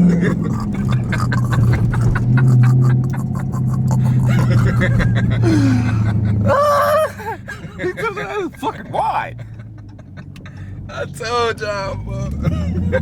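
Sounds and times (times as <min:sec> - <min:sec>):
loud car exhaust: 0:00.0 - 0:13.0.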